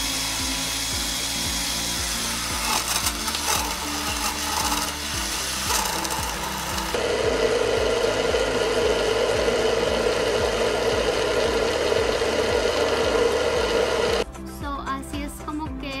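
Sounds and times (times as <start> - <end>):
blender motor running: 0.0 - 14.2.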